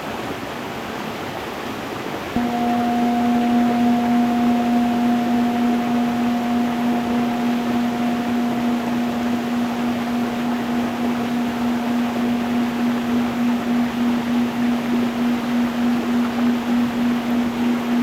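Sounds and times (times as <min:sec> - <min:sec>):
singing bowl ringing: 0:02.4 - 0:18.0.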